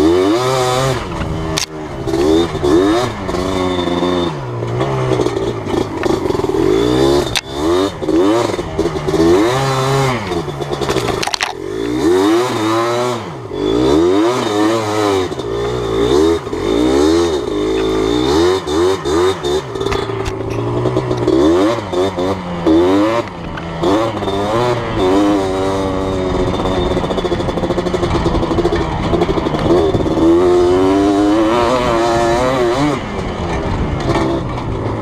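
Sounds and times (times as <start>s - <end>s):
two-stroke engine revving: 0.0s - 35.0s.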